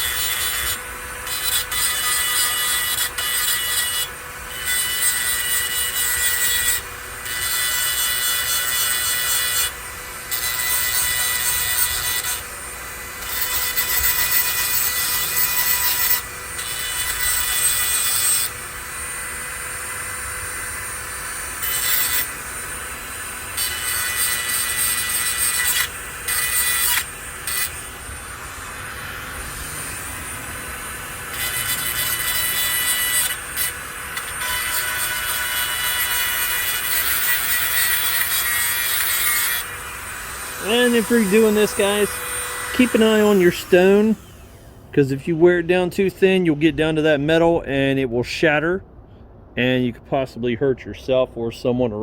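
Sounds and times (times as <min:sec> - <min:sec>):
grinding stone on metal: 0:00.0 - 0:44.7
rotary tool whining: 0:00.0 - 0:46.4.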